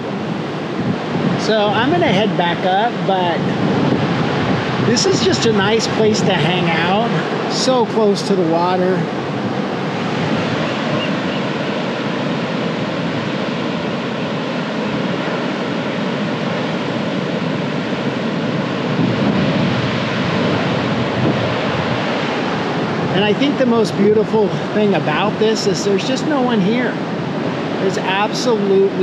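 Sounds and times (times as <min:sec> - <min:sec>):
waves washing onto shore: 0:00.0 - 0:29.0.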